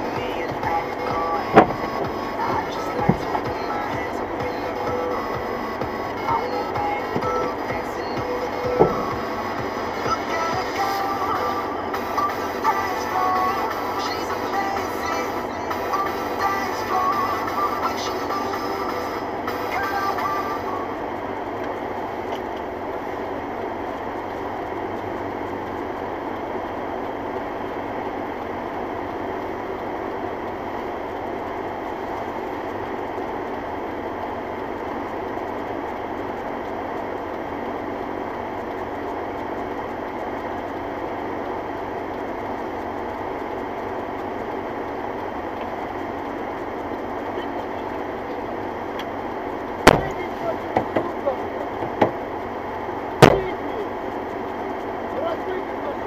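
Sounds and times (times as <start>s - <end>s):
car road and engine noise: 0.0s - 56.0s
faint constant hum: 0.0s - 56.0s.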